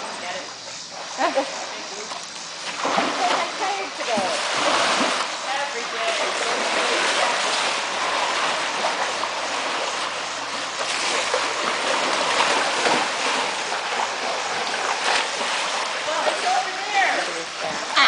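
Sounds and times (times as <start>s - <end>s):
sea lions splashing in water: 0.0s - 18.0s.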